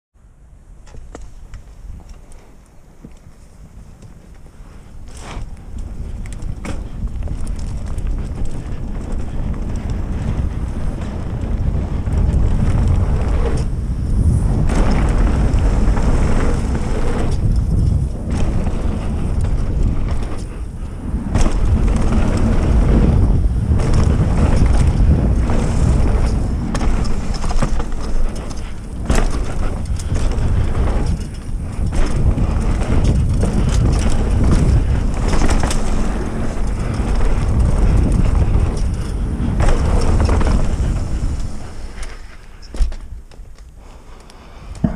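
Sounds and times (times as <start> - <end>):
wind rush on microphone: 0.3 - 44.9
bike knocking and rattling: 0.7 - 44.9
tyres on dirt: 0.8 - 44.9.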